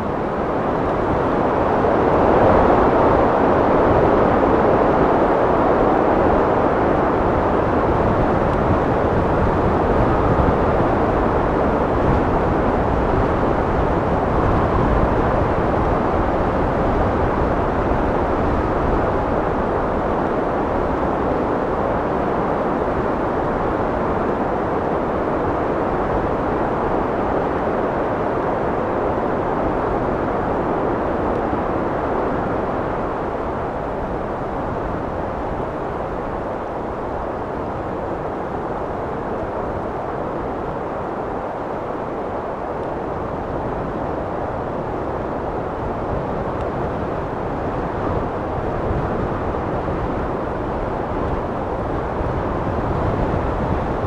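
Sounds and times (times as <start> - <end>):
steady wind blowing: 0.0 - 54.0.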